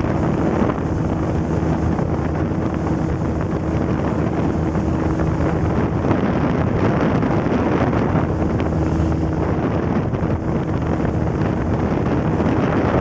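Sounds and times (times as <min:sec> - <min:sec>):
boat motor running: 0:00.0 - 0:13.0
wind buffeting microphone: 0:00.0 - 0:13.0.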